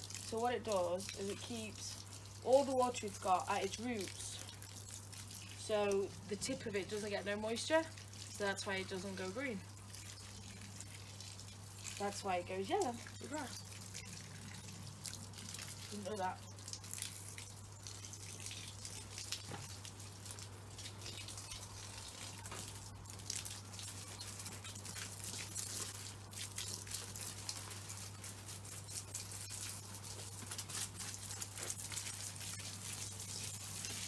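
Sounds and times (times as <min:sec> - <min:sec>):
garden hose spraying water: 0:00.0 - 0:34.0
water pattering on leaves: 0:00.0 - 0:34.0.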